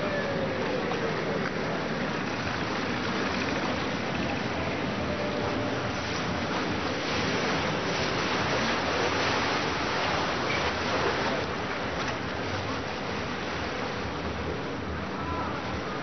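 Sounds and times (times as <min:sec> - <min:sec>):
low boat engine hum: 0:00.0 - 0:16.0
rushing water and wind: 0:00.0 - 0:16.0.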